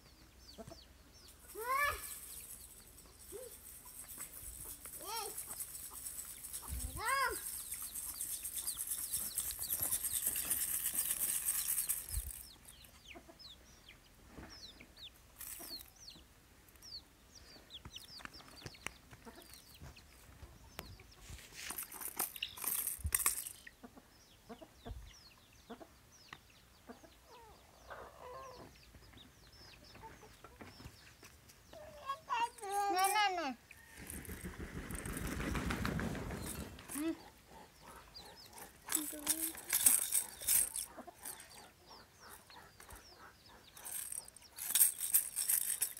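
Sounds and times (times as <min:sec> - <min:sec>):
chicks peeping: 0:00.0 - 0:01.4, 0:02.2 - 0:10.6, 0:12.2 - 0:21.5, 0:23.6 - 0:33.9, 0:34.8 - 0:44.6.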